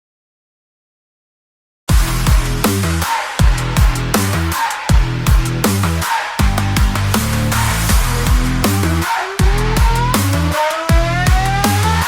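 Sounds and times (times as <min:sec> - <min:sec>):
electronic dance music: 0:01.9 - 0:12.0.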